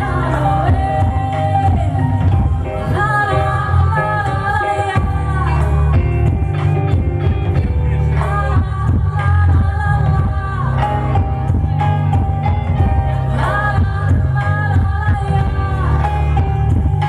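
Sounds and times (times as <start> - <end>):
heavy bass: 0.0 - 17.0
live rock band playing: 0.0 - 17.0.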